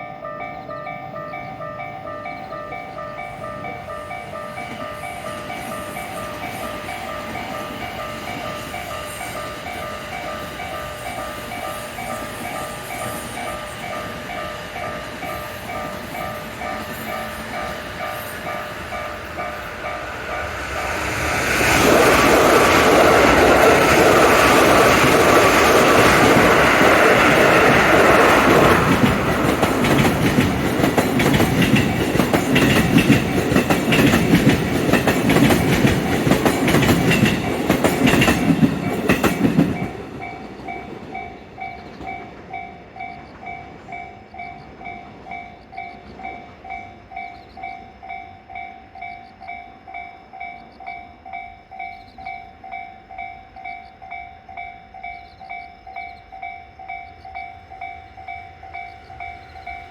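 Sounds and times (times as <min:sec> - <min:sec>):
crossing alarm bell ringing: 0:00.0 - 0:59.9
rail joints clicking: 0:00.0 - 0:59.9
train passing: 0:00.0 - 0:59.9.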